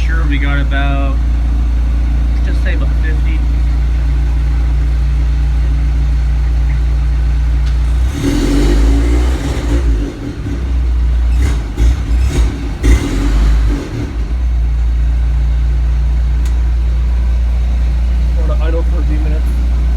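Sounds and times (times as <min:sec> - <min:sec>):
car engine idling: 0:00.0 - 0:19.9
uneven engine rumble with bumps: 0:00.0 - 0:19.9.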